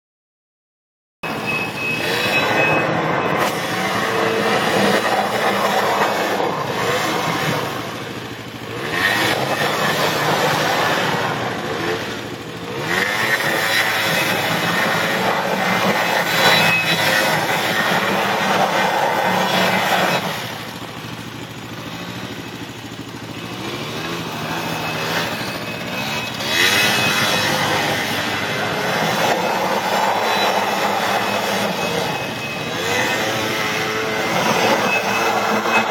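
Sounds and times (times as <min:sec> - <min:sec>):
small atv engine revving: 0:01.2 - 0:35.9.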